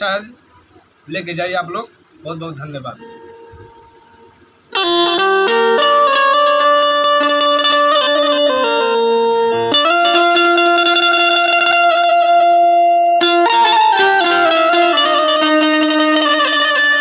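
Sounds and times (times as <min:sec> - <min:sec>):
electric banjo melody: 0:03.0 - 0:17.0.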